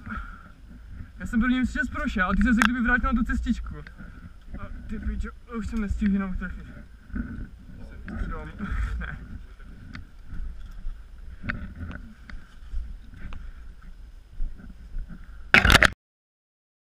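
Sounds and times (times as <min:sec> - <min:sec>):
microphone handling noise: 0:00.0 - 0:16.0
rumbling wind on microphone: 0:00.0 - 0:16.0.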